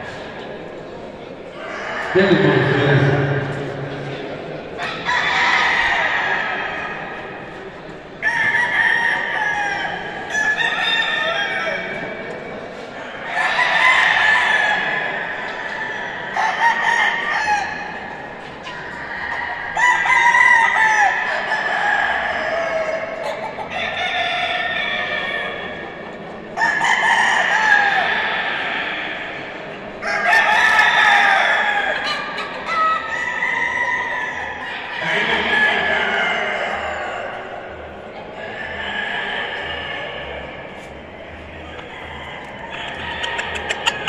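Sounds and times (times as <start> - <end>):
roosters crowing: 1.5 - 7.4, 8.2 - 12.2, 13.1 - 25.9, 26.6 - 44.0.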